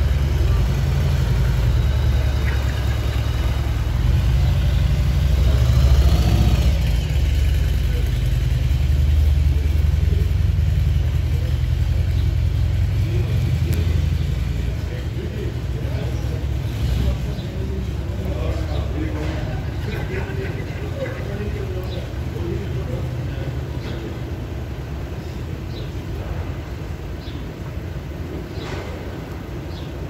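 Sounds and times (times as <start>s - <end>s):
motorcycle exhaust rumble: 0.0s - 29.8s
car moving: 0.0s - 30.0s.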